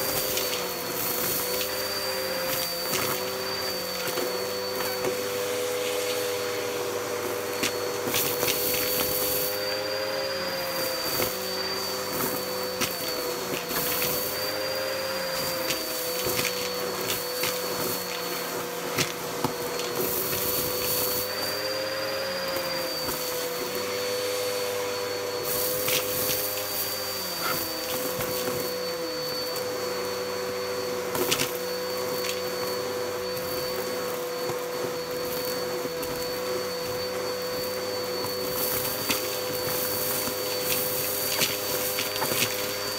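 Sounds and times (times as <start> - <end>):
debris rattling up vacuum hose: 0.0 - 42.9
vacuum cleaner motor whine: 0.0 - 42.9.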